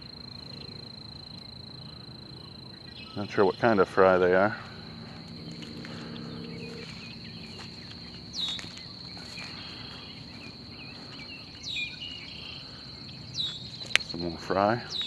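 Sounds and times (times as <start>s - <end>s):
high insect trill: 0.0s - 15.0s
sweeping falling bird call: 1.8s - 15.0s.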